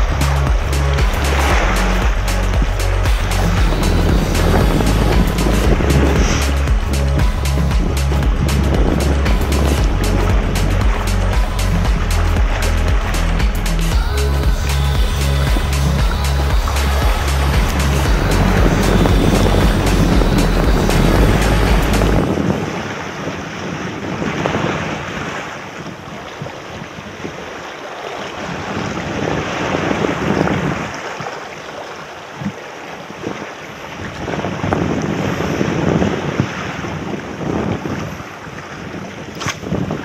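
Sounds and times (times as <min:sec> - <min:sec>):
waves washing around rocks: 0:00.0 - 0:40.0
wind buffeting microphone: 0:00.0 - 0:40.0.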